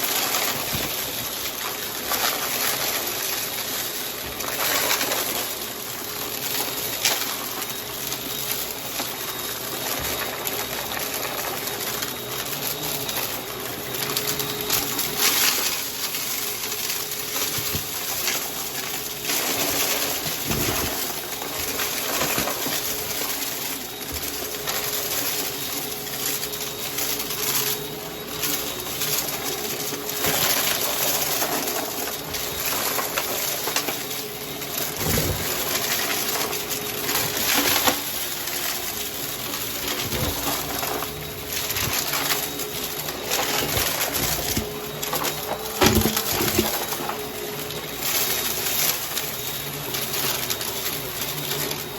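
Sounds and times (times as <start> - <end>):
debris rattling through vacuum: 0.0 - 51.9
vacuum cleaner motor: 0.0 - 51.9.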